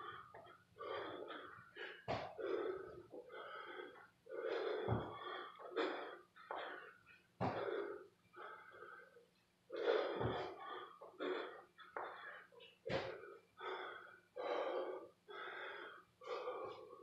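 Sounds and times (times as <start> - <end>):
man panting heavily: 0.0 - 17.0.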